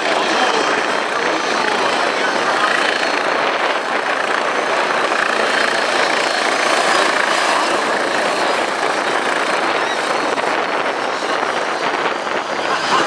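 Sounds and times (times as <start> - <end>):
aircraft in flight drone: 0.0 - 13.0.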